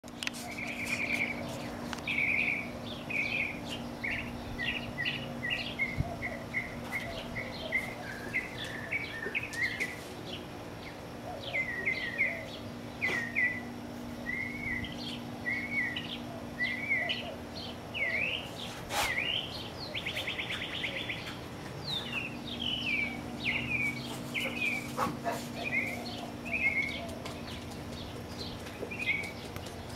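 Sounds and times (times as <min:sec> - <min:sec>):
steady low hum: 0:00.0 - 0:29.9
songbirds singing and chirping: 0:00.1 - 0:29.9.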